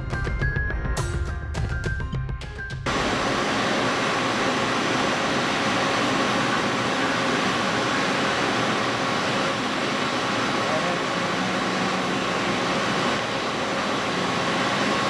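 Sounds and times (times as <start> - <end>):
machine hum and hiss: 2.9 - 15.0.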